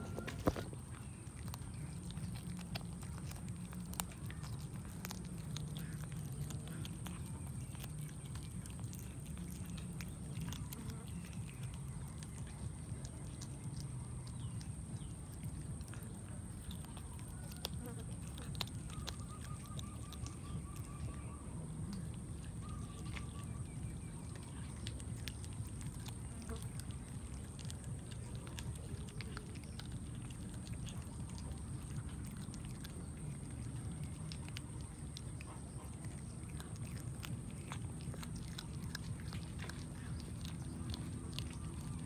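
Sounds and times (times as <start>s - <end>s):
cat chewing: 0.0s - 42.0s
steady low hum: 0.0s - 42.0s.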